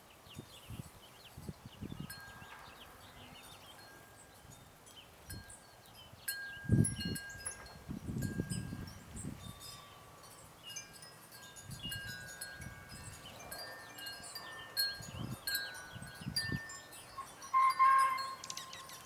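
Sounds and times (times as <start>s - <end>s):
small birds chirping: 0.0s - 19.0s
wind chimes ringing: 3.4s - 19.0s.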